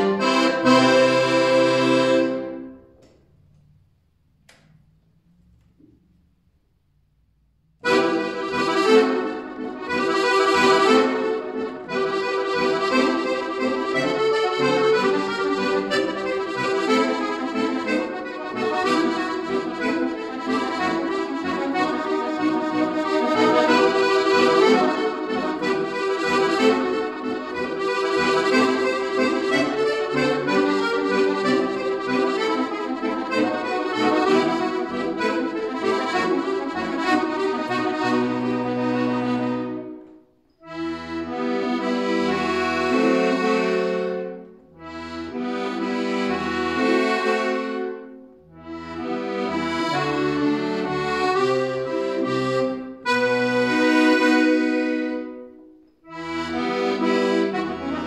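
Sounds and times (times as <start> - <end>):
piano accordion playing: 0.0 - 3.1, 7.8 - 58.0.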